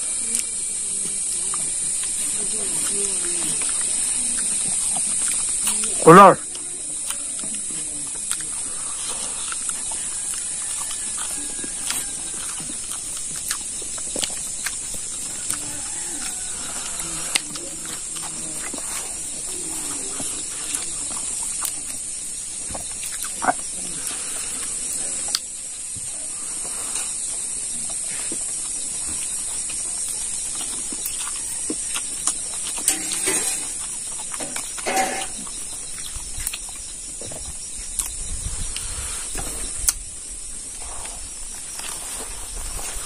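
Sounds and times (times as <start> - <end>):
steady high hiss: 0.0 - 11.0, 11.6 - 31.1, 32.2 - 43.0
chewing and lip-smacking: 0.0 - 43.0.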